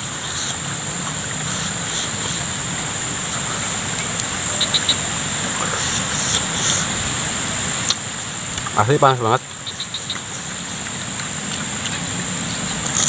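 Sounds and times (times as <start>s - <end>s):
high-pitched insect drone: 0.0s - 13.0s
soft hiss: 0.0s - 13.0s.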